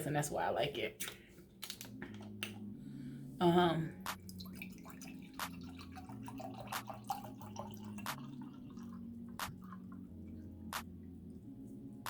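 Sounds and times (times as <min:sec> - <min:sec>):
soft background music chords: 0:00.0 - 0:12.0.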